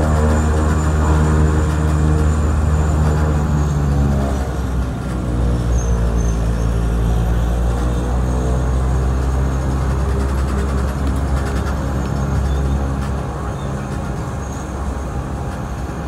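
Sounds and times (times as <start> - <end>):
aircraft engine and propeller drone: 0.0 - 16.0.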